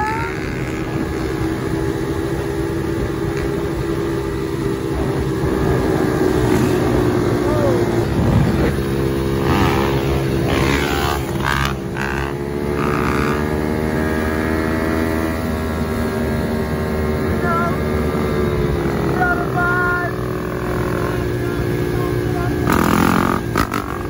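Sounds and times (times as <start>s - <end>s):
dirt bike engines running: 0.0s - 24.0s
road and wind noise: 0.0s - 24.0s.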